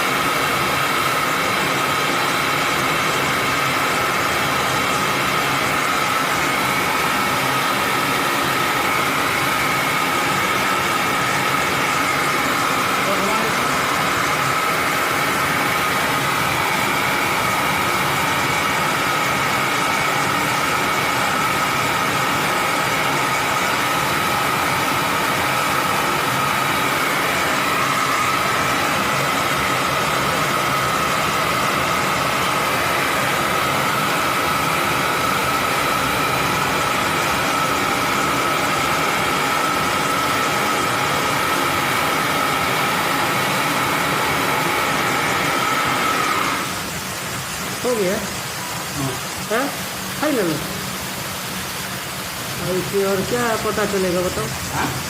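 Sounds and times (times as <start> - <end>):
gas torch hissing: 0.0 - 55.0.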